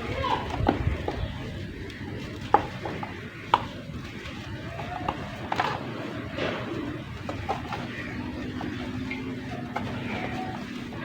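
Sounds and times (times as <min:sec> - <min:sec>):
wet clay handling: 0:00.0 - 0:11.0.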